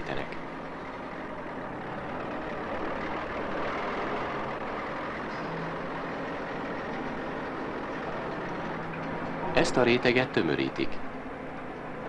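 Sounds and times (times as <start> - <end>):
faint low engine hum: 0.0 - 12.0
paving machine running: 0.0 - 12.0.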